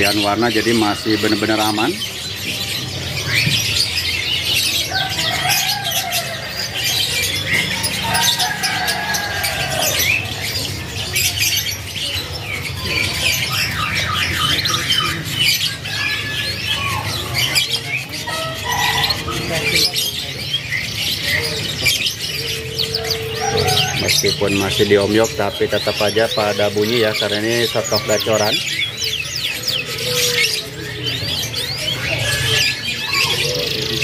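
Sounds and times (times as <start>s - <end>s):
canaries singing and trilling: 0.0s - 34.0s.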